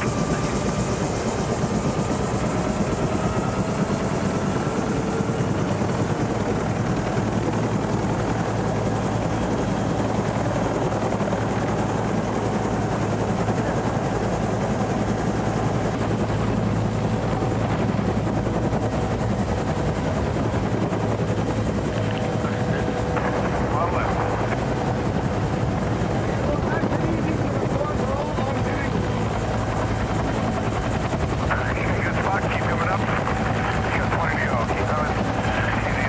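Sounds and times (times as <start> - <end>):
helicopter rotor and turbine: 0.0 - 36.0.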